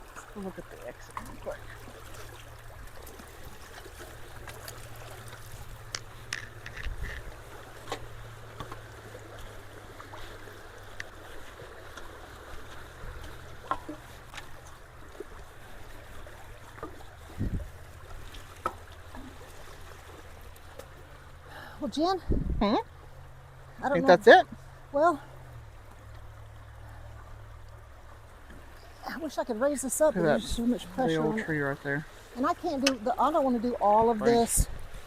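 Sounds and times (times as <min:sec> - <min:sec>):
stream water rushing: 0:00.0 - 0:35.0.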